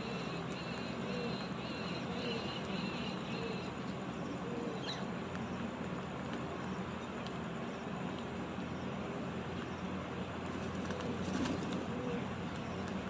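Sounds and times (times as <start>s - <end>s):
outdoor background hum: 0.0s - 13.0s.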